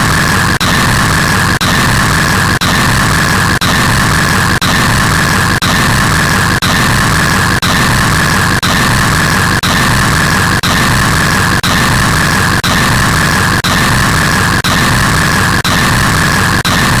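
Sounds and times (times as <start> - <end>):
harsh static noise: 0.0 - 17.0.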